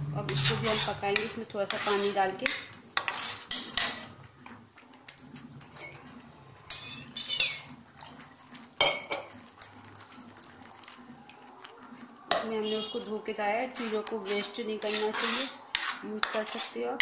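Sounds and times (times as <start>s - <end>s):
spoon scraping metal pot: 0.2s - 4.6s, 5.7s - 11.1s, 11.9s - 17.0s.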